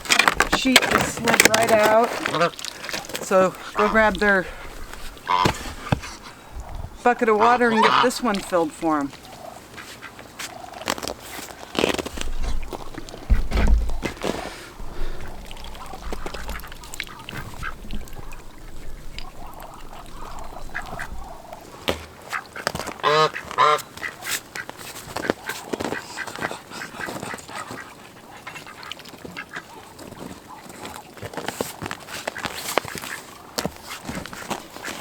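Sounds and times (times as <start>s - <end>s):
ducks quacking: 0.2s - 35.0s.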